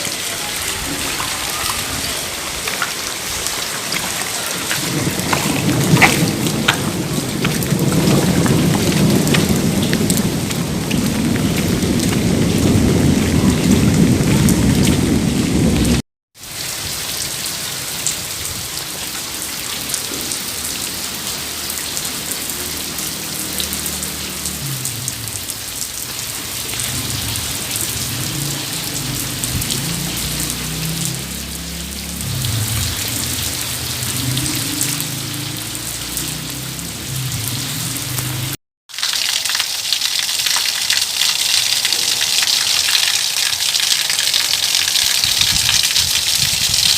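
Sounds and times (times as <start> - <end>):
rushing water: 0.0 - 46.9
steady rain: 0.0 - 46.9.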